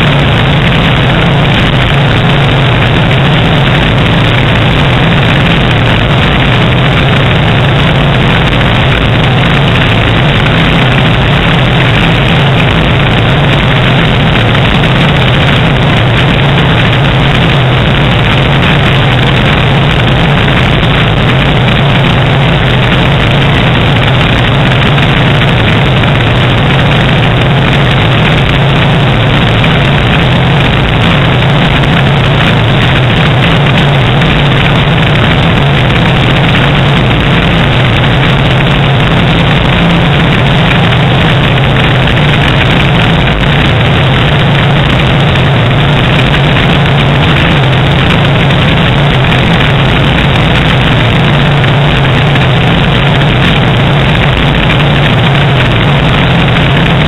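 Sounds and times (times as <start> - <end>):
airplane engine humming: 0.0 - 57.0
rushing airflow: 0.0 - 57.0.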